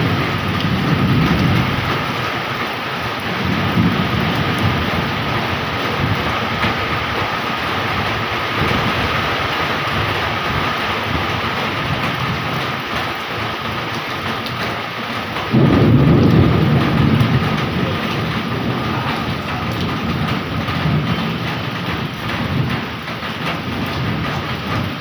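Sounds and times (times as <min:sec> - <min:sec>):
heavy rain pouring: 0:00.0 - 0:25.0
low rumble of thunder: 0:00.0 - 0:25.0.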